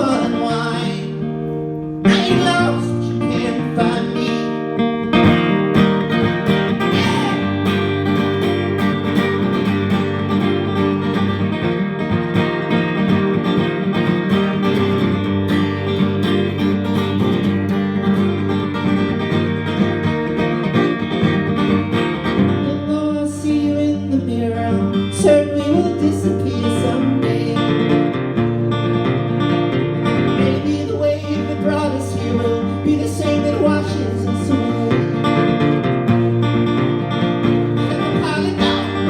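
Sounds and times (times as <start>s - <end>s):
live folk-rock band playing: 0.0s - 39.0s
strummed acoustic guitar: 0.0s - 39.0s.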